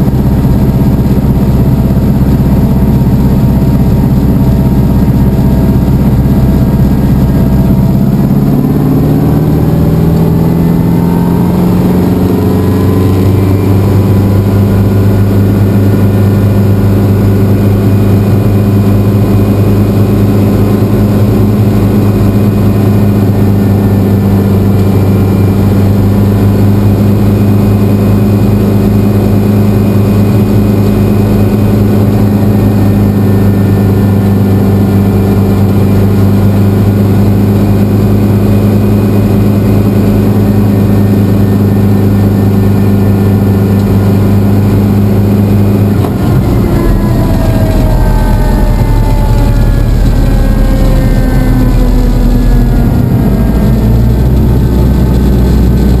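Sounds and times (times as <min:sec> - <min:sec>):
helicopter engine and rotor hum: 0:00.0 - 0:56.0.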